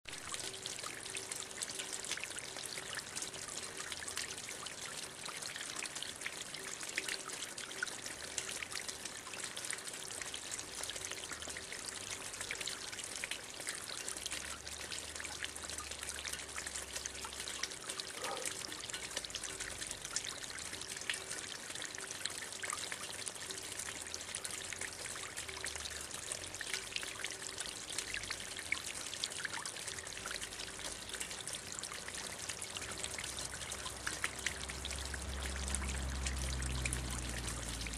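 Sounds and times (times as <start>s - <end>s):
fountain water splashing: 0.1s - 37.9s.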